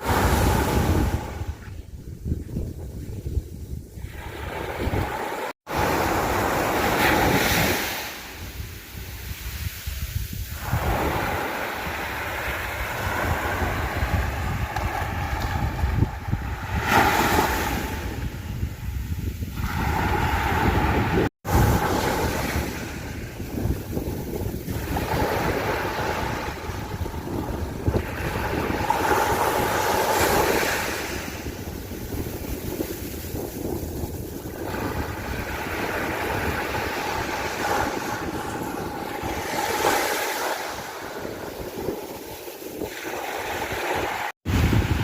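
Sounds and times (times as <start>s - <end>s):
waves washing onto beach: 0.0s - 1.9s, 4.0s - 45.0s
wind buffeting microphone: 0.0s - 45.0s.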